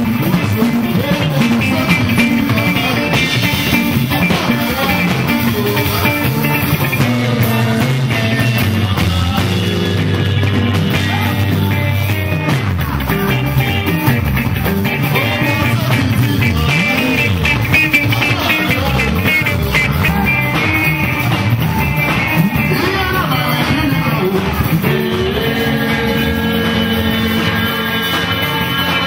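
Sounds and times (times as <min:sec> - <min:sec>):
bass line: 0:00.0 - 0:29.0
electric guitar: 0:00.0 - 0:29.0.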